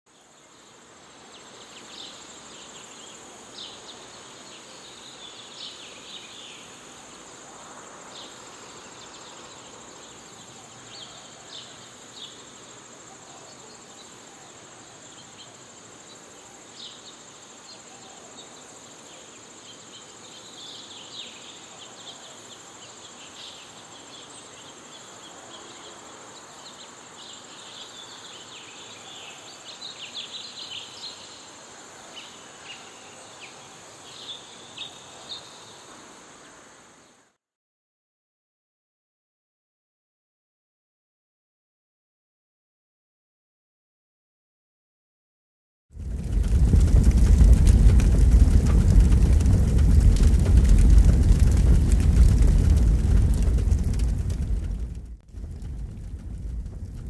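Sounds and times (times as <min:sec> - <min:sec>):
insect chirps: 0:00.1 - 0:37.4, 0:46.0 - 0:57.0.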